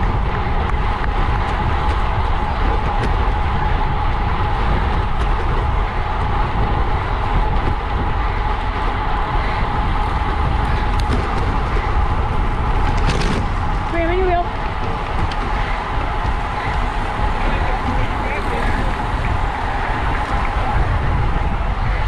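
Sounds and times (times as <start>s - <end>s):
constant high hum: 0.0s - 22.0s
wind rumbling on microphone: 0.0s - 22.0s.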